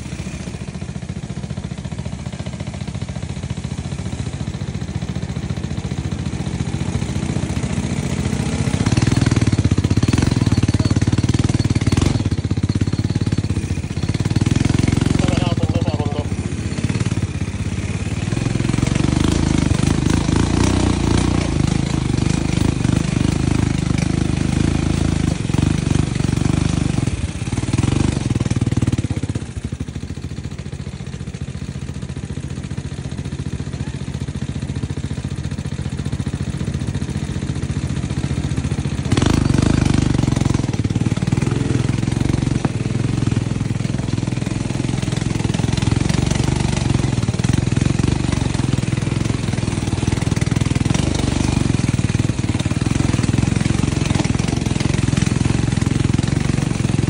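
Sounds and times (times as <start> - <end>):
atv engines rumbling: 0.0 - 57.0.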